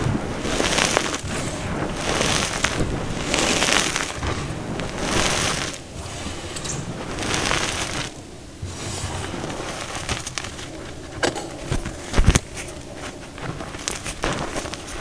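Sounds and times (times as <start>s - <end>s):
fingers crackling and tapping powder: 0.0s - 15.0s
powder pouring through fingers: 0.0s - 15.0s.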